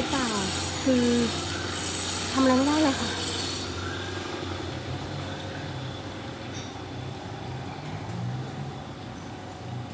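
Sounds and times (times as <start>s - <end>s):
wavering engine drone: 0.0s - 9.9s.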